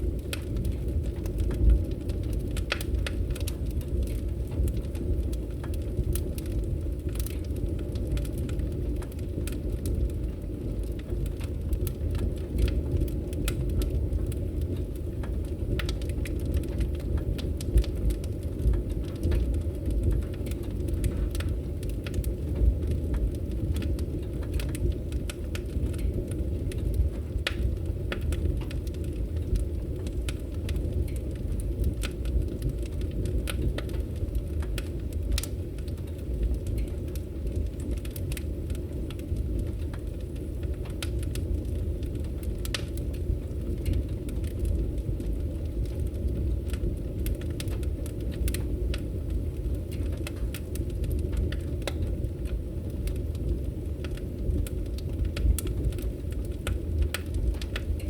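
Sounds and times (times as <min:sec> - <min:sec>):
low rumble of burning logs: 0:00.0 - 0:58.0
wood fire pops and snaps: 0:00.0 - 0:58.0.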